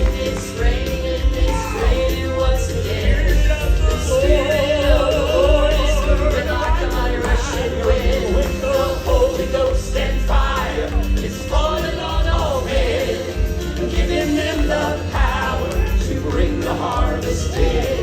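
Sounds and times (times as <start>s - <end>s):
strong bass: 0.0s - 18.0s
vocal group singing gospel: 0.0s - 18.0s.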